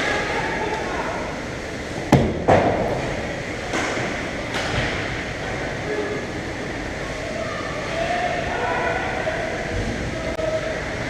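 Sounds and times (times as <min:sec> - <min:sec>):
ice hockey game rumbling: 0:00.0 - 0:11.0.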